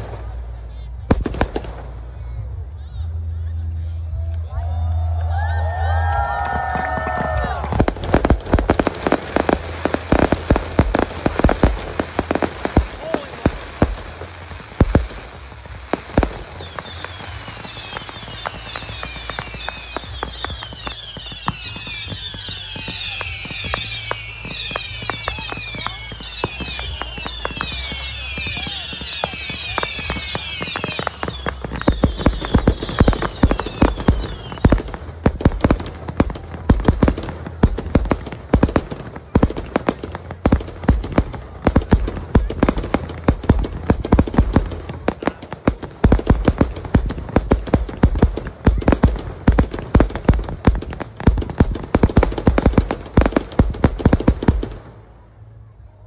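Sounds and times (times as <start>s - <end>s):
fireworks pops and bangs: 0.0s - 2.5s, 4.3s - 55.5s
fireworks crackling: 0.0s - 56.0s
whistling fireworks: 0.0s - 56.0s.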